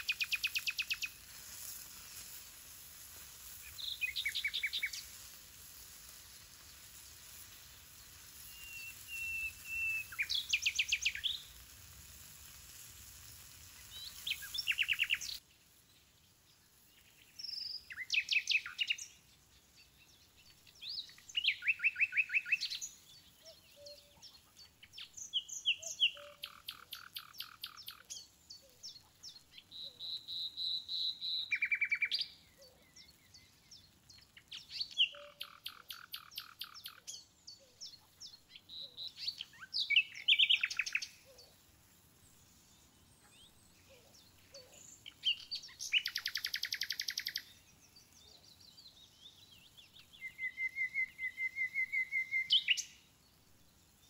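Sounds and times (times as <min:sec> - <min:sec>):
faint steady hiss: 0:00.0 - 0:54.0
songbirds singing: 0:03.4 - 0:11.7, 0:13.6 - 0:54.0.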